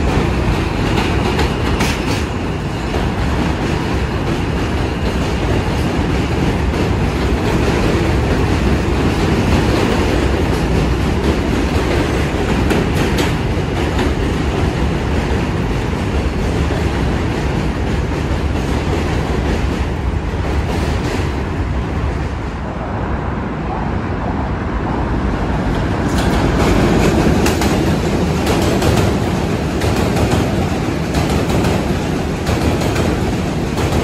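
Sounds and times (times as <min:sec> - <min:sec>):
train wheels clicking on rail joints: 0:00.0 - 0:21.6, 0:25.6 - 0:34.0
subway trains rumbling on bridge: 0:00.0 - 0:34.0.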